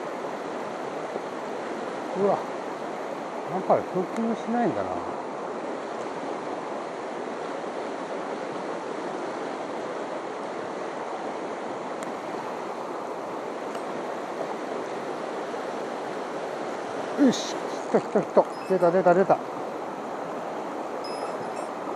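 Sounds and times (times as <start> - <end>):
mountain stream rushing: 0.0 - 21.9.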